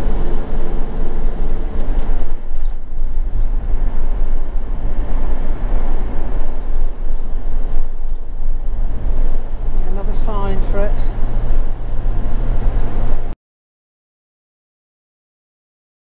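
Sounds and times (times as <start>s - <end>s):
engine and road rumble: 0.0s - 13.4s.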